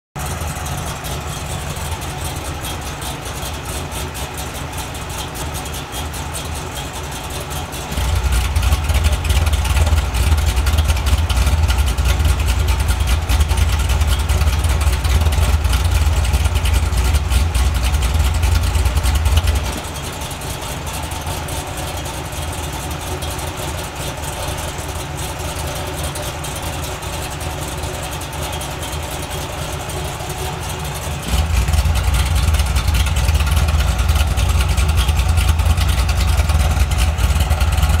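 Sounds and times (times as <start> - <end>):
car engine lopey idle: 0.2 - 38.0.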